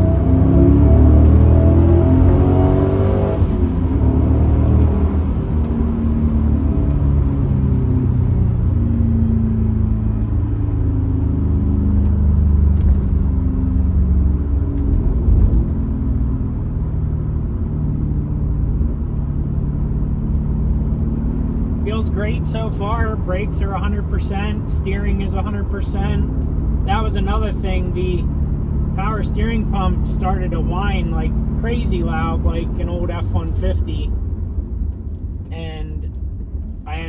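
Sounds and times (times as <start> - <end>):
car engine cruising: 0.0 - 37.0.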